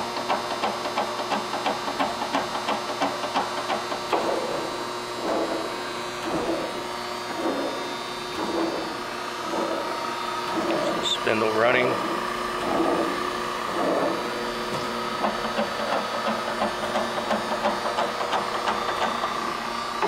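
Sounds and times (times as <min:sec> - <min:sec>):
grinder machine hum: 0:00.0 - 0:20.0.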